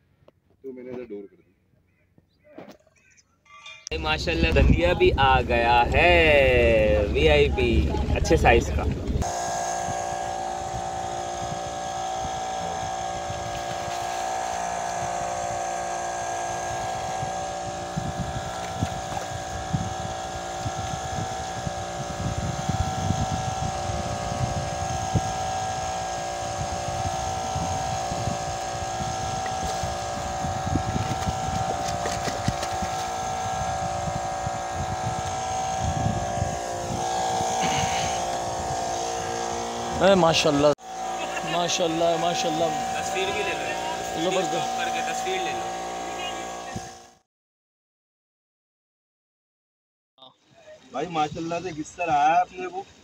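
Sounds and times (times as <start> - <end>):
wind buffeting microphone: 3.9 - 47.0
boat engine running: 3.9 - 47.2.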